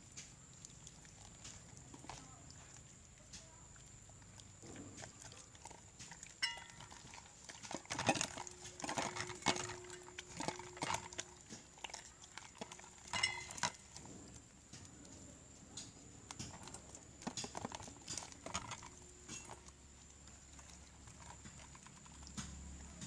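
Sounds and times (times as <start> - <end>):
slime squelching: 0.0 - 23.0.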